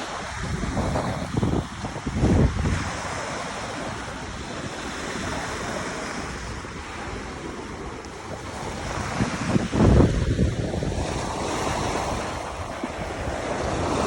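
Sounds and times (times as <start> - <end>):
waves breaking: 0.0 - 14.0
wind rumbling on microphone: 0.0 - 14.0.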